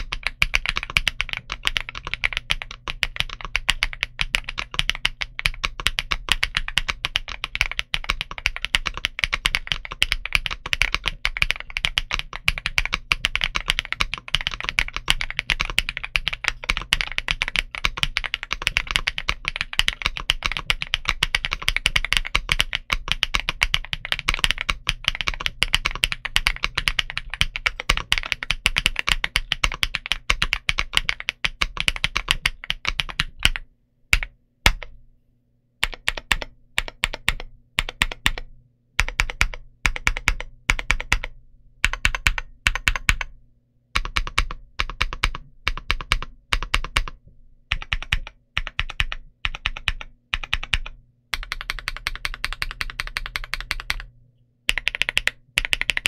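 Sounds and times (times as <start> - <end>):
mechanical keyboard typing: 0.0 - 35.0, 35.8 - 43.4, 44.0 - 54.1, 54.7 - 56.0.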